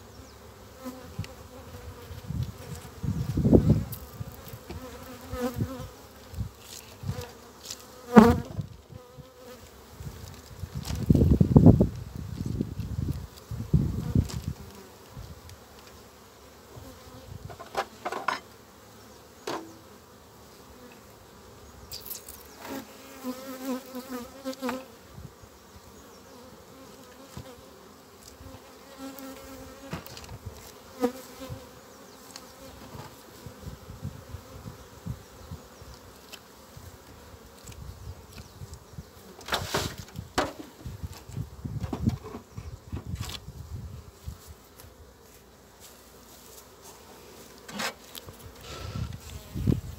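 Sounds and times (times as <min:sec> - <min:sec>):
bee flying close past: 0:00.0 - 0:49.9
honeybees buzzing: 0:00.0 - 0:49.9.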